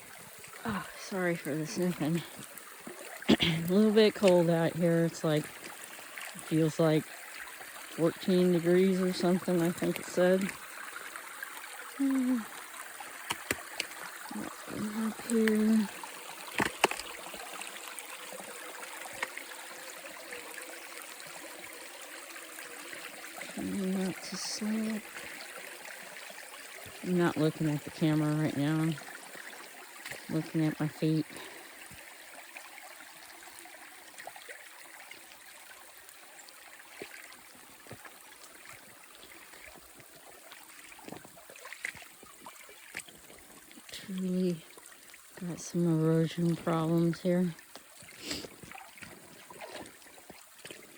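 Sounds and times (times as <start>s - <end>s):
creek running over rocks: 0.0s - 50.9s.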